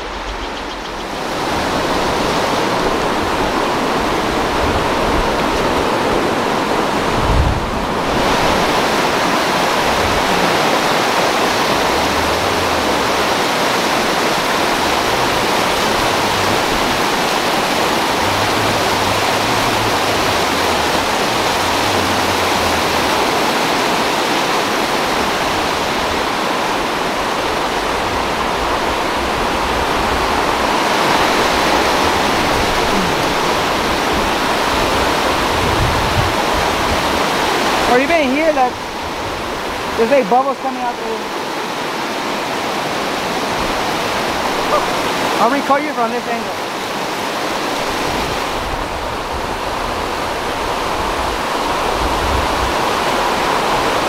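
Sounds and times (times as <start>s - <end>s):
river water rushing over rapids: 0.0s - 54.0s.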